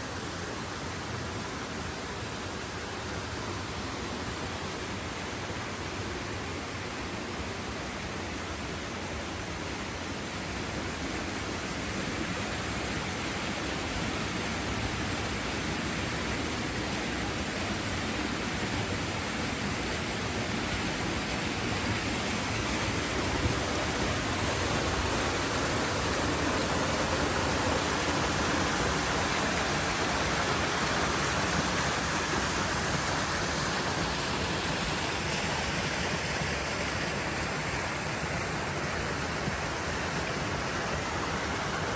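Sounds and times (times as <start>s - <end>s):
running water rushing: 0.0s - 41.9s.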